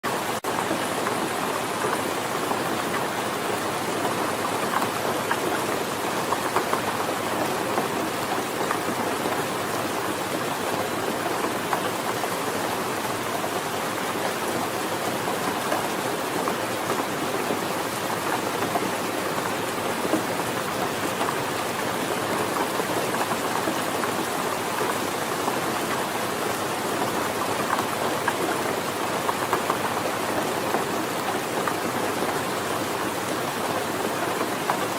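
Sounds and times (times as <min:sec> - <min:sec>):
heavy rain pattering on a surface: 0:00.1 - 0:34.9.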